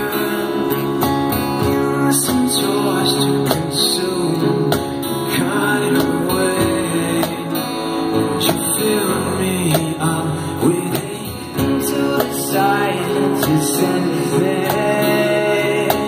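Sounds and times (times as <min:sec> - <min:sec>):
acoustic guitars strumming: 0:00.0 - 0:16.0
man singing: 0:00.0 - 0:16.0.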